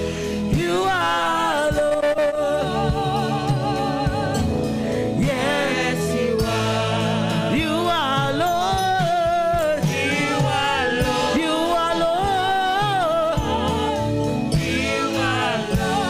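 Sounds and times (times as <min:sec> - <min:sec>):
band accompaniment: 0:00.0 - 0:16.0.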